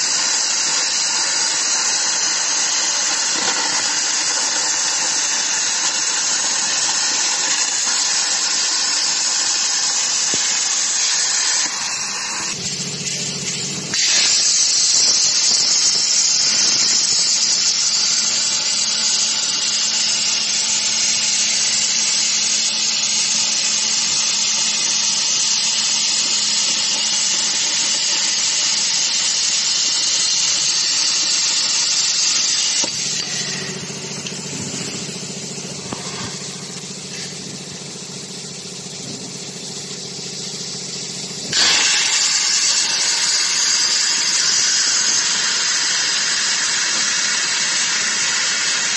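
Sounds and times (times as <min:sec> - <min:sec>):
plasma torch hissing: 0:00.0 - 0:48.9.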